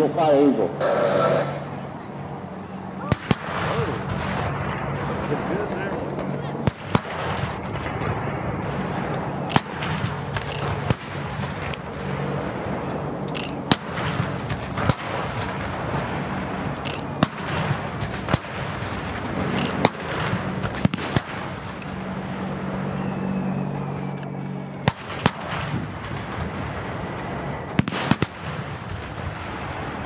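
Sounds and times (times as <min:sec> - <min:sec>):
steady low hum: 0:00.0 - 0:30.0
artillery booms: 0:03.0 - 0:22.7, 0:24.8 - 0:30.0.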